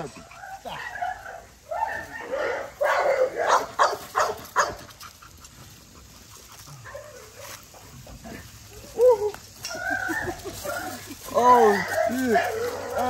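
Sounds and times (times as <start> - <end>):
puppies yapping: 0.0 - 13.0.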